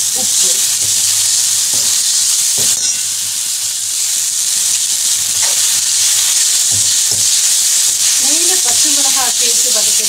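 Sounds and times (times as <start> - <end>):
greens sizzling in a pan: 0.0 - 10.0.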